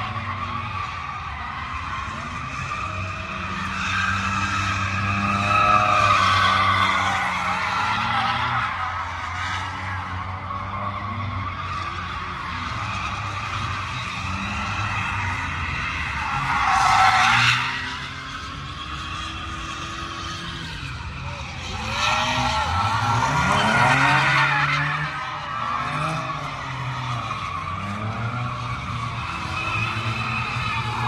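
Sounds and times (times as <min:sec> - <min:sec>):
car engines revving: 0:00.0 - 0:31.0
tyres screeching on asphalt: 0:00.0 - 0:31.0.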